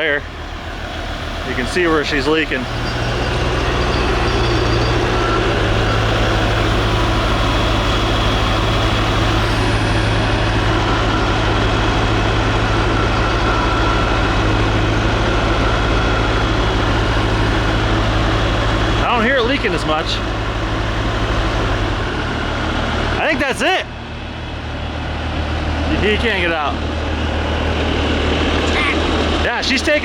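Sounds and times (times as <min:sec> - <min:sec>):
large engine running: 0:00.0 - 0:30.0.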